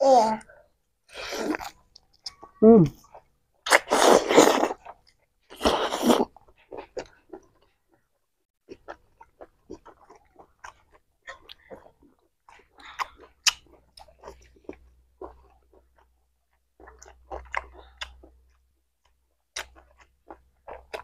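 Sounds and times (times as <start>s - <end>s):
close chewing and biting: 1.2s - 21.0s.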